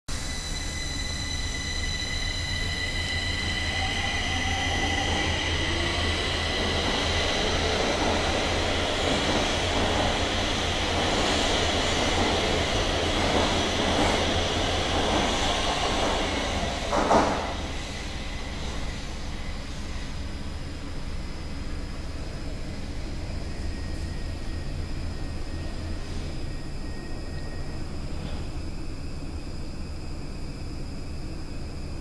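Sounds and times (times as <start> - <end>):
electric train on rails: 0.1 - 32.0.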